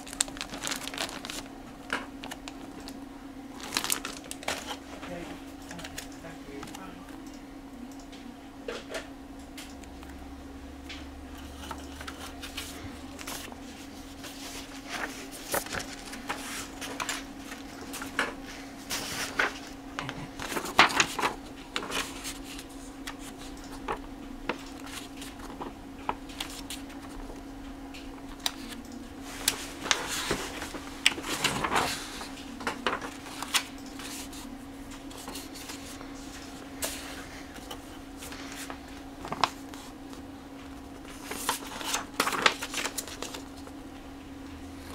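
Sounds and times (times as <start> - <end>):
paper pages rustling: 0.0 - 3.0, 3.6 - 5.2, 11.4 - 27.4, 28.3 - 43.7
steady low hum: 0.0 - 44.9.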